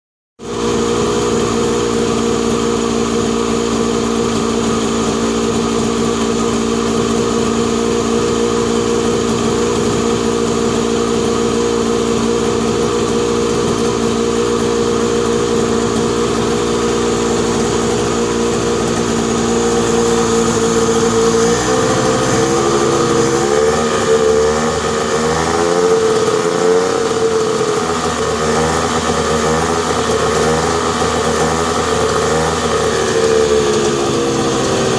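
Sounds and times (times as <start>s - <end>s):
van engine idling and revving: 0.4s - 34.9s.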